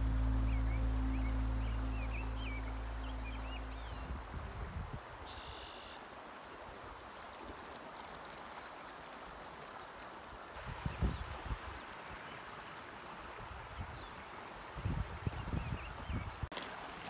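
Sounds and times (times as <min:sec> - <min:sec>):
fast-flowing creek: 0:00.0 - 0:17.0.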